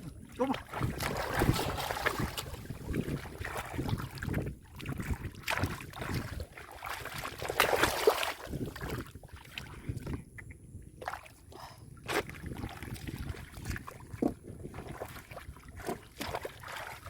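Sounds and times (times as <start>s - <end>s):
muddy water sloshing: 0.0s - 17.0s.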